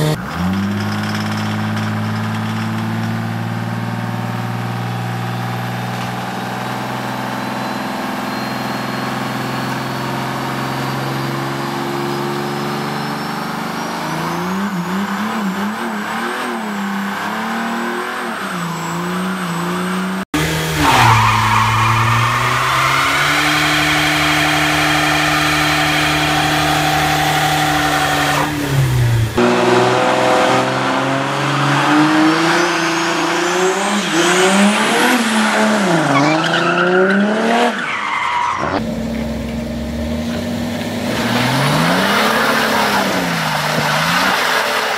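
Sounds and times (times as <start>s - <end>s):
car engines revving high: 0.0s - 44.9s
second car revving: 0.0s - 44.9s
tyres spinning and squealing: 0.1s - 29.4s, 31.6s - 38.9s, 40.3s - 44.9s.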